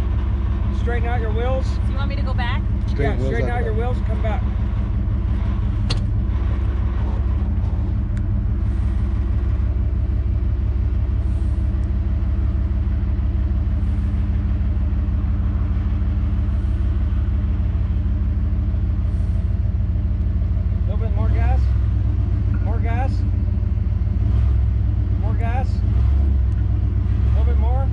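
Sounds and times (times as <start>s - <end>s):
truck engine rumbling: 0.0s - 27.9s.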